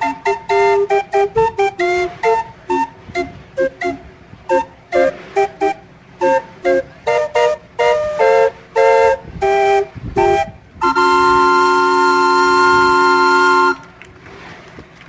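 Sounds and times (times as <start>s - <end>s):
calliope playing chords: 0.0s - 14.0s.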